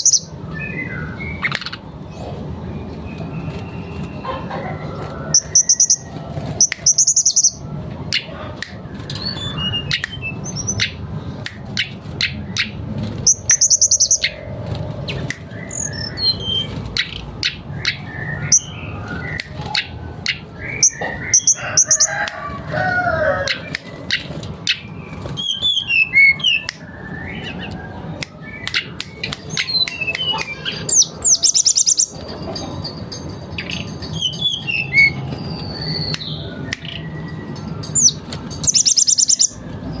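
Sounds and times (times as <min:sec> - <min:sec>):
bird singing: 0:00.0 - 0:11.0, 0:11.7 - 0:22.2, 0:23.5 - 0:32.3, 0:33.6 - 0:40.0.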